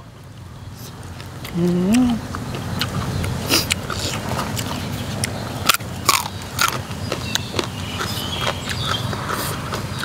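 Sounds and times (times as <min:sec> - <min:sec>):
man chewing food: 0:00.0 - 0:10.0.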